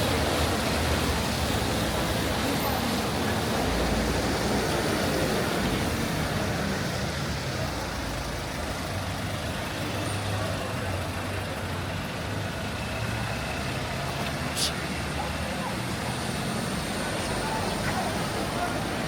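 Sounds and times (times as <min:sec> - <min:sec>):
rain hiss on wet street: 0:00.0 - 0:19.0
vehicle engine humming: 0:00.0 - 0:19.0.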